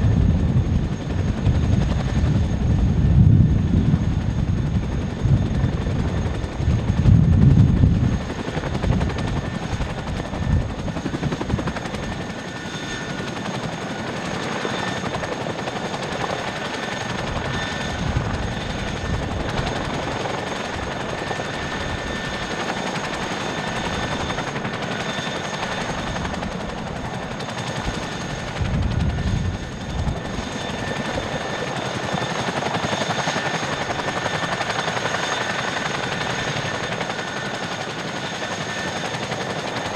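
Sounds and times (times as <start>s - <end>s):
helicopter rotor chop: 0.0s - 39.9s
turbine engine whine: 0.0s - 39.9s.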